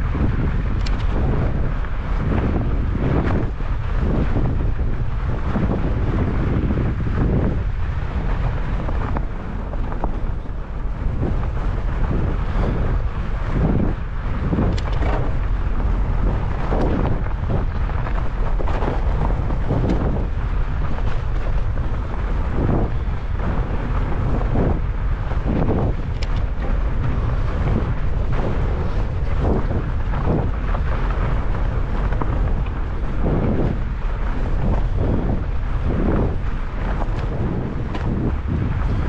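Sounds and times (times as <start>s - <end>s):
bike knocks and rattles: 0.0s - 39.0s
wind buffeting microphone: 0.0s - 39.0s.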